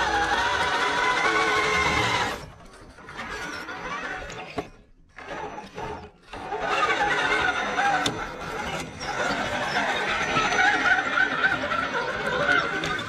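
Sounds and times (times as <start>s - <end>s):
electric motor whine: 0.0s - 13.0s
gear and dirt noise: 0.0s - 13.0s.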